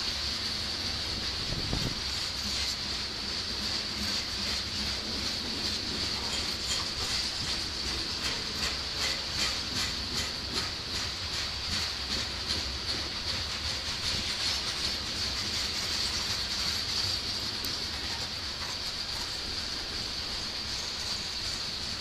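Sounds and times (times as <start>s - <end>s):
constant high hiss: 0.0s - 22.0s
train wheels clicking over rail joints: 0.0s - 22.0s.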